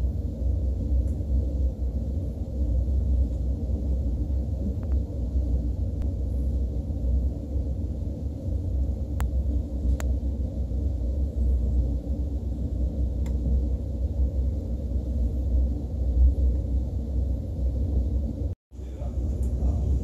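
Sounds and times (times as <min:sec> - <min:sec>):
train rumbling inside cabin: 0:00.0 - 0:20.0.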